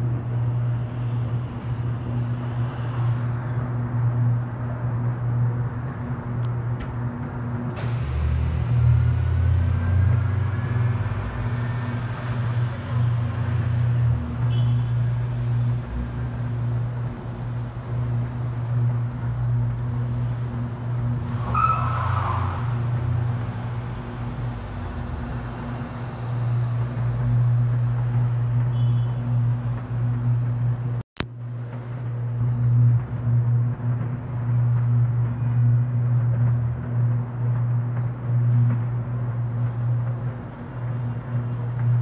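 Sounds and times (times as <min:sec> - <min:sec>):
electrical hum: 0:00.0 - 0:21.5, 0:22.4 - 0:42.0
deep drone: 0:00.0 - 0:42.0.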